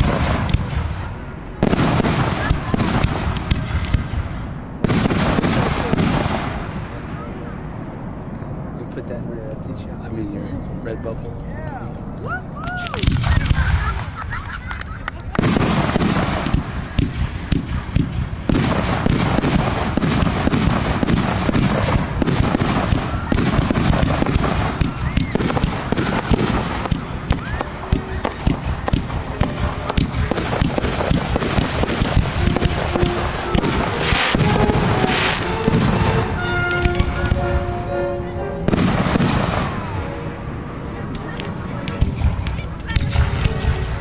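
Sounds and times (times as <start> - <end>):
fireworks bursting: 0.0 - 7.6, 12.6 - 44.0
fireworks crackling: 0.0 - 7.6, 12.5 - 44.0.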